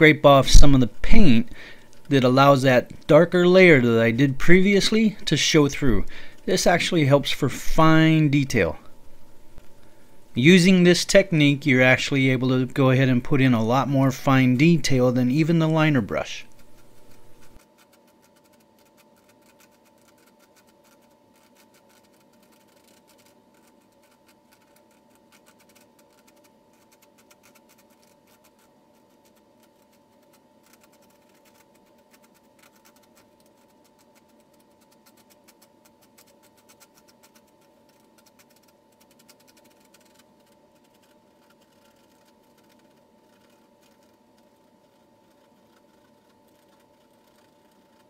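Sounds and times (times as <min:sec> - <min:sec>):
background hum: 0:00.0 - 0:48.0.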